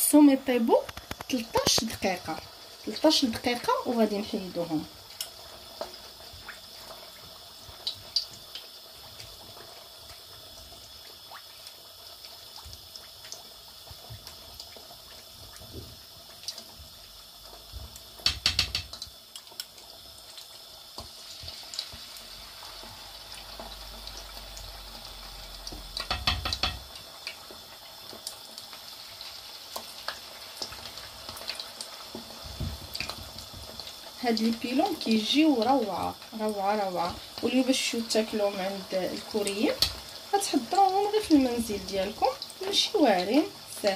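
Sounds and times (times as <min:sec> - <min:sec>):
chicken deep-frying in oil: 0:00.0 - 0:43.9.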